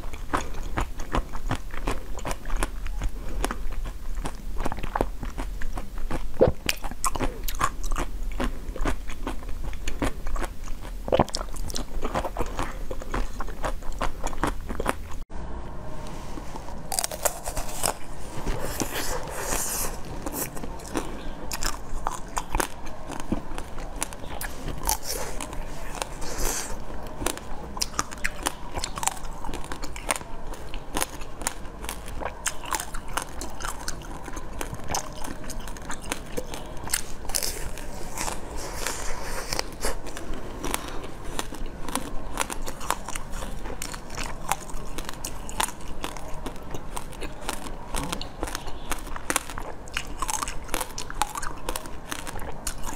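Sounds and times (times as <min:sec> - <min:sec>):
crunching frozen sweets: 0:00.0 - 0:15.2, 0:16.0 - 0:52.9.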